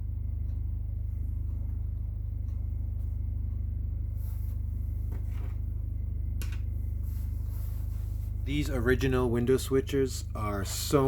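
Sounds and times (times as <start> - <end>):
low pulsing hum: 0.0 - 11.0.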